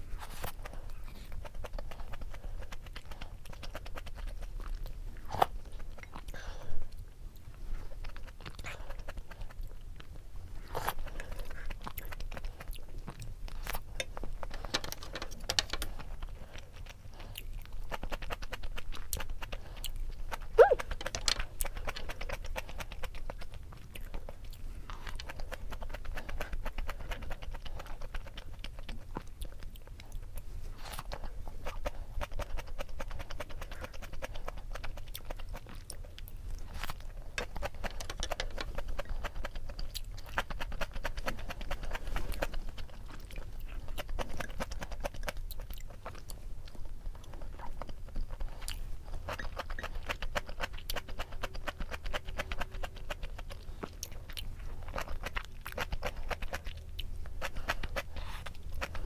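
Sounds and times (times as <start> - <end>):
person chewing crunchy cabbage: 0.0 - 59.0.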